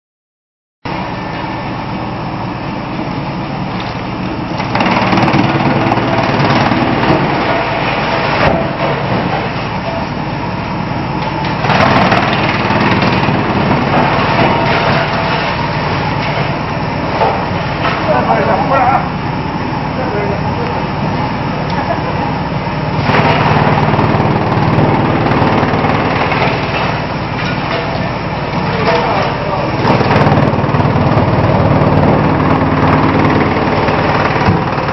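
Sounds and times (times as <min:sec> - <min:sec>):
wood chipper running: 0:00.9 - 0:34.9.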